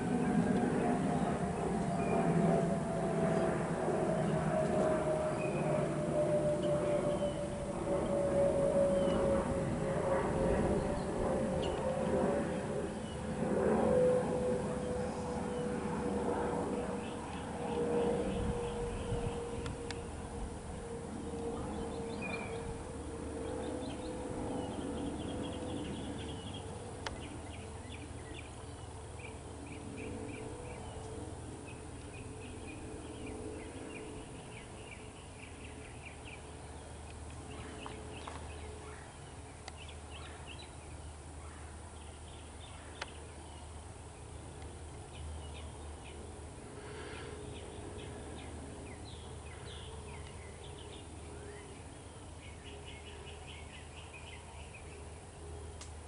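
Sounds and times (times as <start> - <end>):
steady hum: 0.0 - 56.0
birds chirping: 3.2 - 13.3, 14.0 - 43.8, 44.4 - 55.2.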